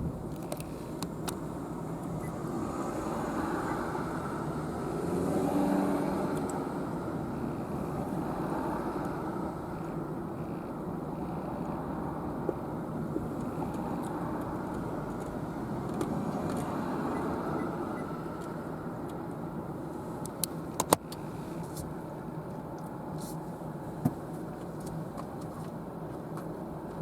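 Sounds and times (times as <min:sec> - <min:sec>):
car engine and tyre noise: 0:00.0 - 0:27.0.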